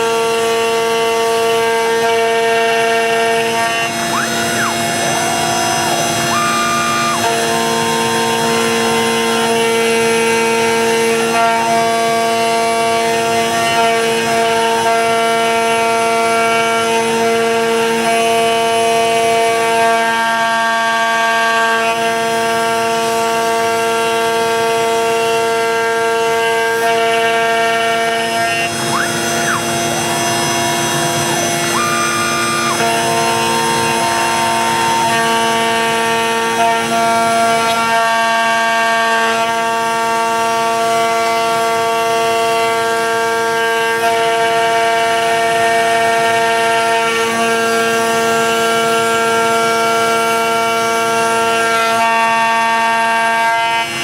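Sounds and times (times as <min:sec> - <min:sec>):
router cutting wood: 0:00.0 - 0:54.0
router motors whining: 0:00.0 - 0:54.0.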